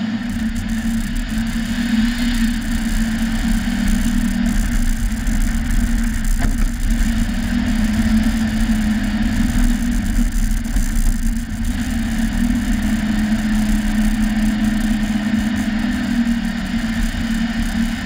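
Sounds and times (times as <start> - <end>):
car engine drone: 0.0 - 18.0
road rumble: 0.0 - 18.0.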